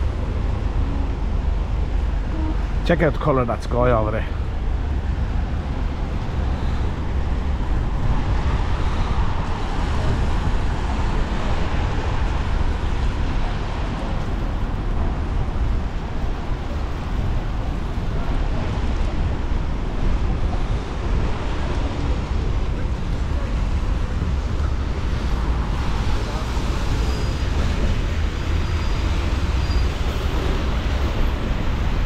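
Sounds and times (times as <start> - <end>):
traffic on wet roads: 0.0 - 32.0.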